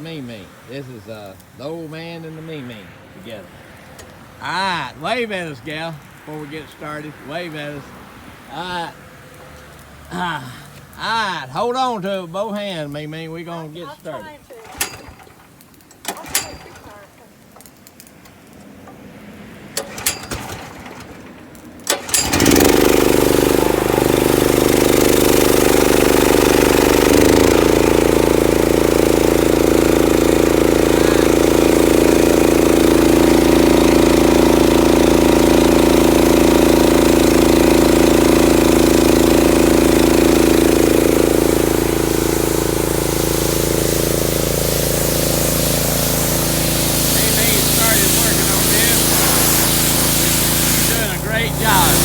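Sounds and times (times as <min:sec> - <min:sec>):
pressure washer engine running: 0:00.0 - 0:10.0, 0:11.0 - 0:52.0.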